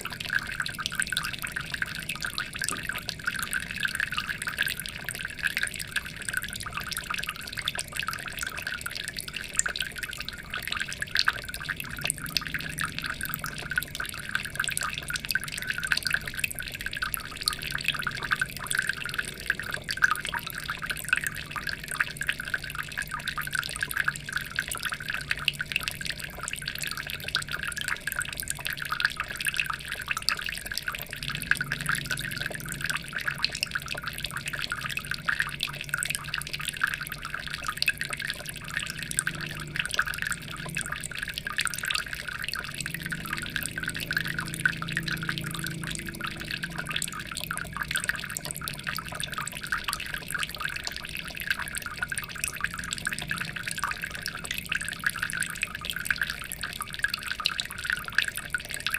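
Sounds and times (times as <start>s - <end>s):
water trickling and splashing: 0.0s - 58.9s.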